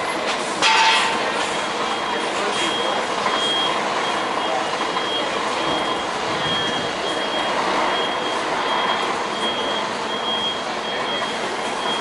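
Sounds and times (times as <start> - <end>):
road traffic noise: 0.0 - 12.0
crossing signal beeping: 0.6 - 12.0.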